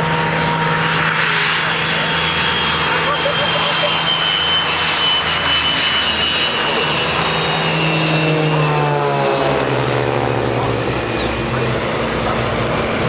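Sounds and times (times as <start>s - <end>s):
aircraft engines flying past: 0.0s - 13.0s
high engine whine: 0.0s - 13.0s.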